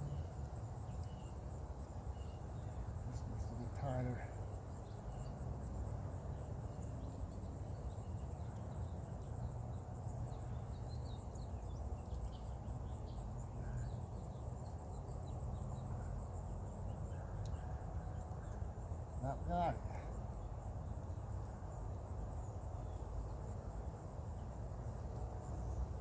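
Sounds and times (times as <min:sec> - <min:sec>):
insects chirping trill: 0:00.0 - 0:26.0.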